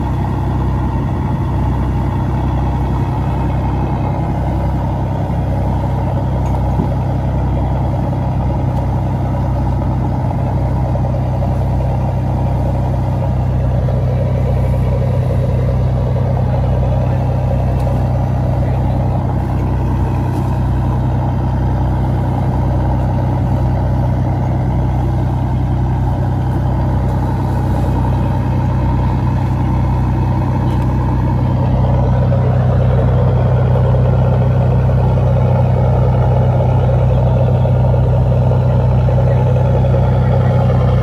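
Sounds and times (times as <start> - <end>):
boat engine humming: 0.0 - 41.0
water rushing along hull: 0.0 - 41.0.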